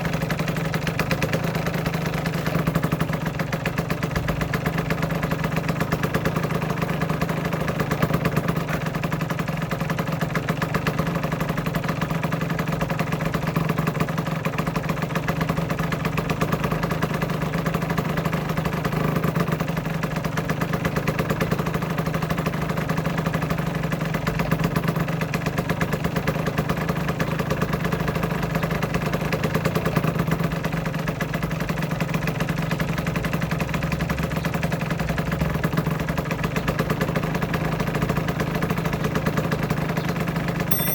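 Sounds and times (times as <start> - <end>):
two-stroke engine idling: 0.0 - 40.9.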